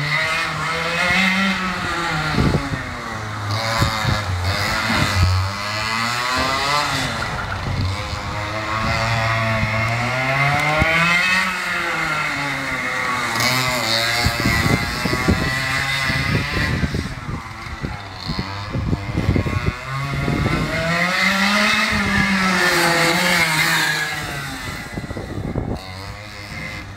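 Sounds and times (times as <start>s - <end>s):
engine crackles: 0.0s - 26.9s
kart engine revving: 0.0s - 26.9s.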